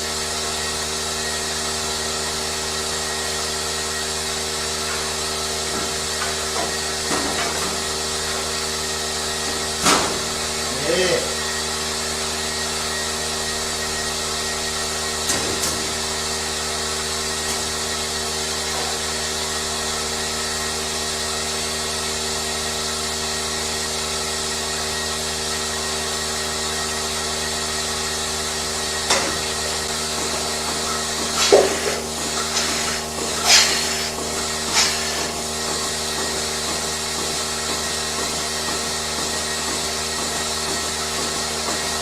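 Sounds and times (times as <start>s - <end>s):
machine motor humming: 0.0s - 42.0s.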